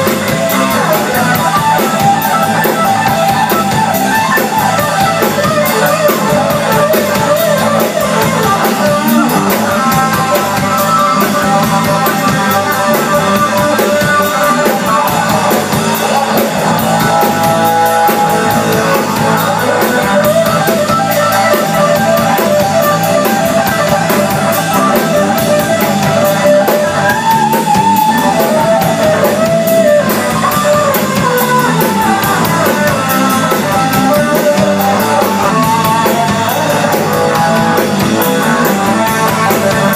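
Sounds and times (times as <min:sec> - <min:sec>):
drums: 0:00.0 - 0:39.9
electric guitar lead: 0:00.0 - 0:39.9.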